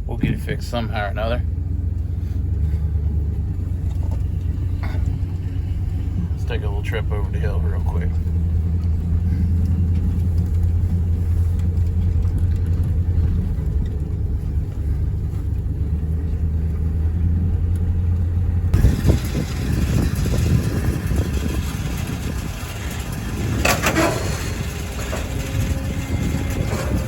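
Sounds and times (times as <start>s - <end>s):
vehicle engine droning: 0.0s - 27.0s
rough rattling noise: 3.6s - 27.0s.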